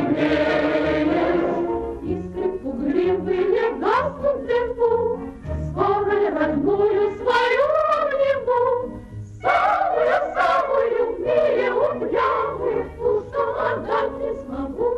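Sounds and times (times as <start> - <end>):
voices singing wordless refrain: 0.0 - 14.9.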